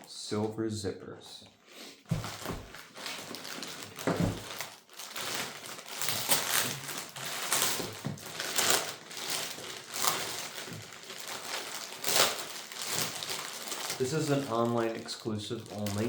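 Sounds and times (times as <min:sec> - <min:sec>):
packaging crinkling and rustling: 0:02.1 - 0:16.0.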